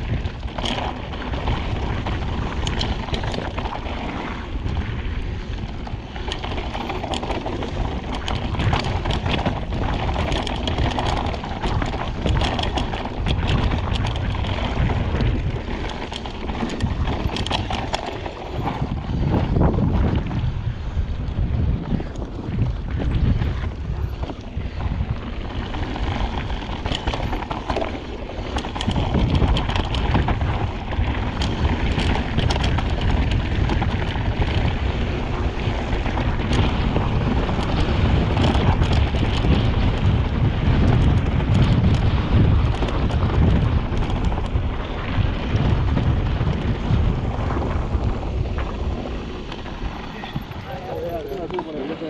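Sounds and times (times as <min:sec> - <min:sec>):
bike clicking and rattling: 0:00.0 - 0:52.0
bike tyres rolling on dirt: 0:00.0 - 0:52.0
wind buffeting microphone: 0:00.0 - 0:52.0.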